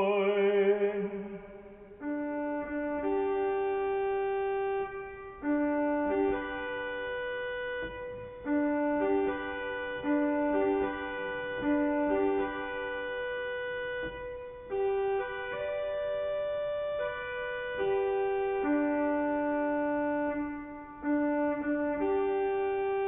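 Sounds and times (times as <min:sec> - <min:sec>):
church organ playing chords: 0:00.0 - 0:23.0.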